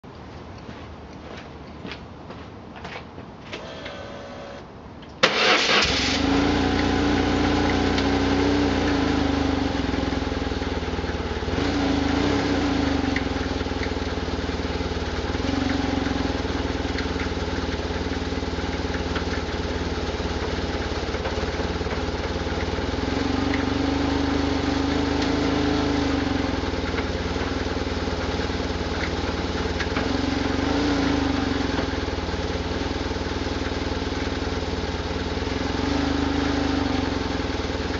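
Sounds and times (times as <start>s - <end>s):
engine rattle: 5.2s - 37.9s
motorcycle engine idling: 7.4s - 37.9s.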